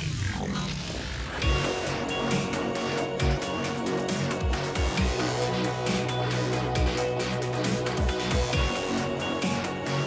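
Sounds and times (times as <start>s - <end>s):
intro music with heavy beat: 0.2s - 10.0s.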